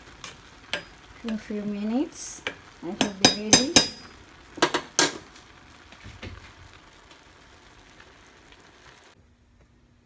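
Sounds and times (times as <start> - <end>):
pot hissing on stove: 0.0 - 9.2.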